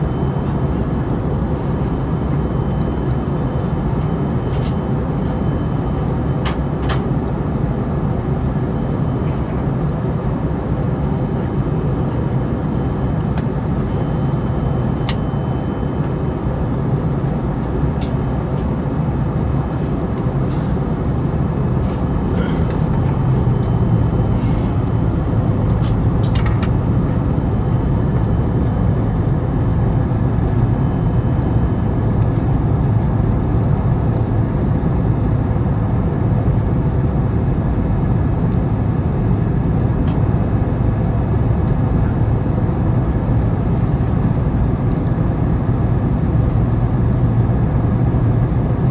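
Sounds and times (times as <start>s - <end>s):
distant aircraft engine: 0.0s - 48.9s.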